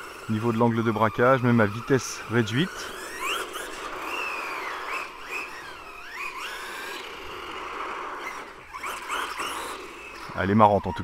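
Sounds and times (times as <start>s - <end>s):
rc car motor whining: 0.0s - 11.0s.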